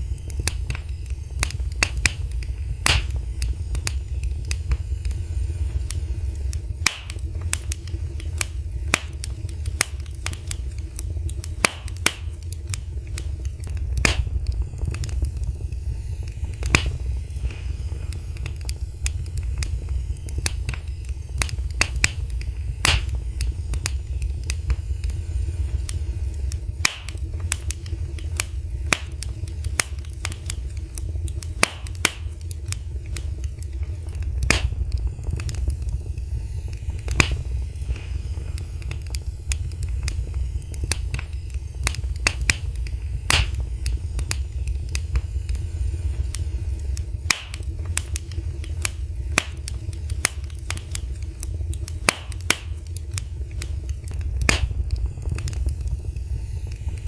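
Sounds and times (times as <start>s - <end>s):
burning wood crackling and popping: 0.0s - 57.0s
low rumble of flames: 0.0s - 57.0s.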